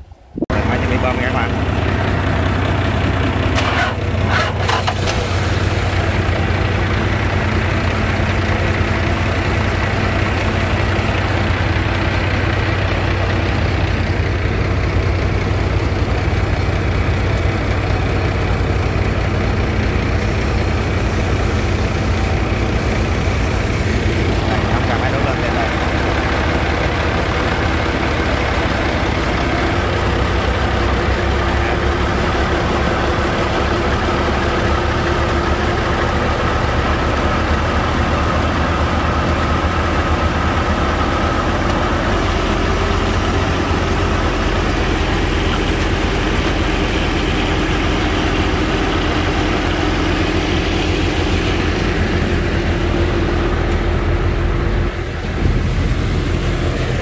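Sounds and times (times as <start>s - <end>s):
pump engine running: 0.4s - 57.0s.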